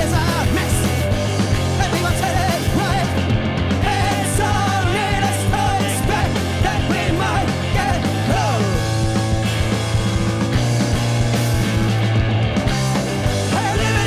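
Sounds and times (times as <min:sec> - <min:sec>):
drums: 0:00.0 - 0:14.0
live rock band playing: 0:00.0 - 0:14.0.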